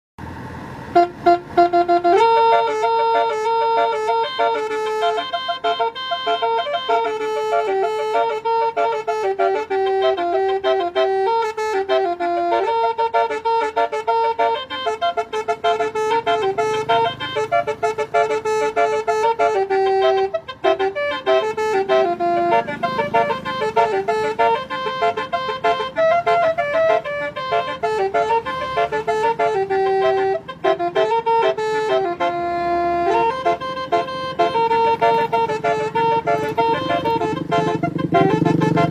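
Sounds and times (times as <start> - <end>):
multi-tone horn playing melody: 0.9 - 38.9.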